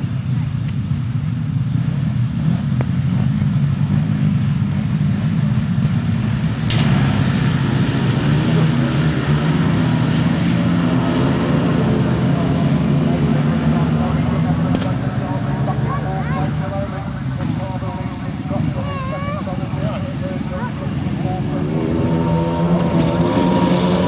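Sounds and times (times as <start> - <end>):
sidecar engines revving: 0.0 - 24.0.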